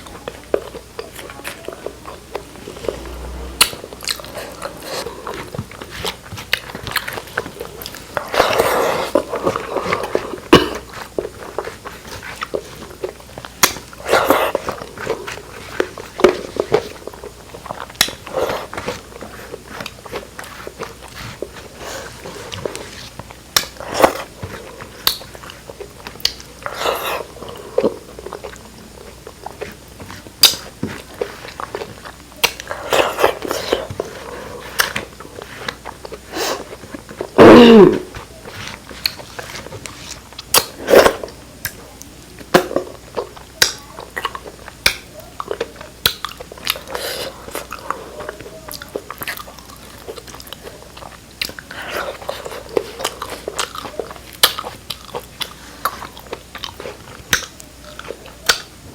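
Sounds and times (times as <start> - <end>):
chewing and biting: 0.2 - 37.4, 42.6 - 58.8.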